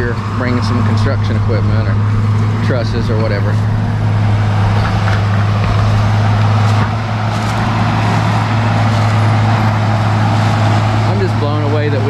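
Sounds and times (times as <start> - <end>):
bulldozer diesel engine humming: 0.0 - 12.0.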